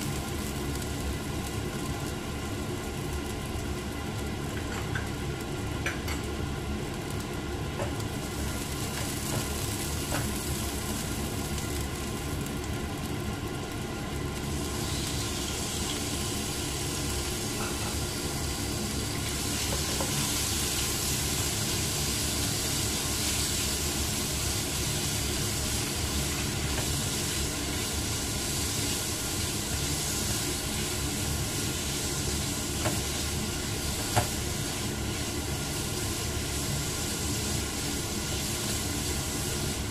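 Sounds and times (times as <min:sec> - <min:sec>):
meat sizzling in oil: 0:00.0 - 0:39.9.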